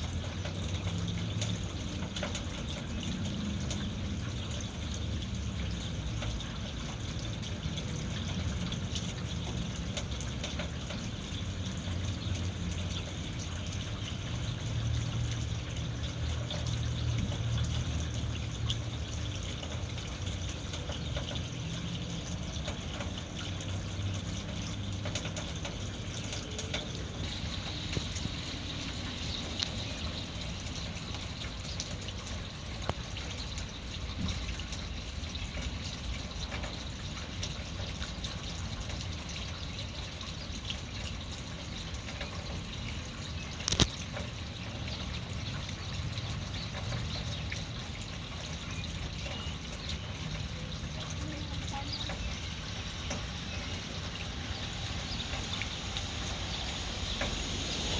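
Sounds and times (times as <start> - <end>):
rainwater trickling and dripping: 0.0 - 57.9.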